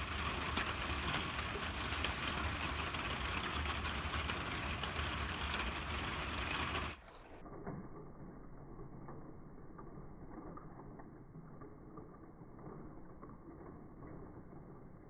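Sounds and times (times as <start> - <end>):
fine ticking and crackling: 0.0 - 15.0.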